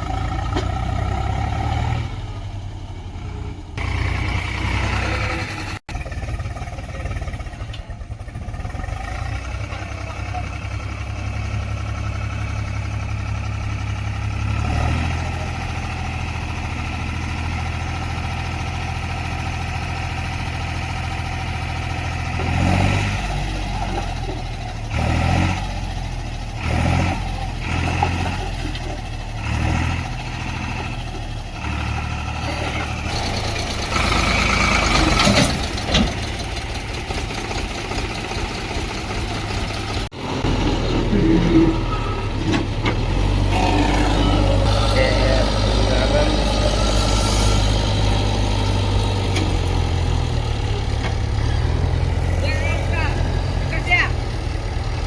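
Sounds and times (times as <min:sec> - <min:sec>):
diesel engines running under load: 0:00.0 - 0:55.0.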